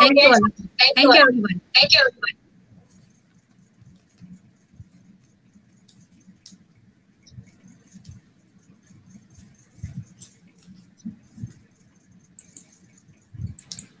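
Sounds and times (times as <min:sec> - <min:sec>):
light clicking and rustling: 0:02.8 - 0:14.0.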